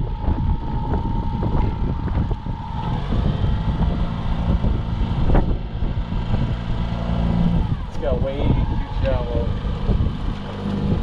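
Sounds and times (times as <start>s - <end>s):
outboard motor running: 0.0s - 11.0s
wind buffeting microphone: 0.0s - 11.0s.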